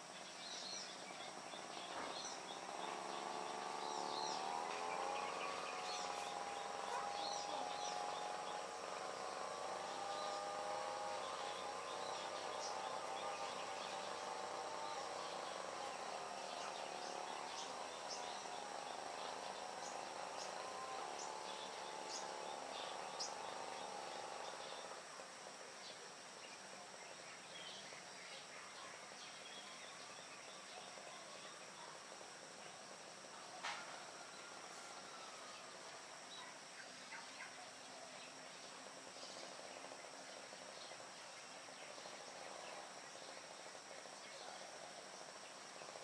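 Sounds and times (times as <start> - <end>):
distant droning hum: 0.0 - 46.0
insect and cricket drone: 0.0 - 46.0.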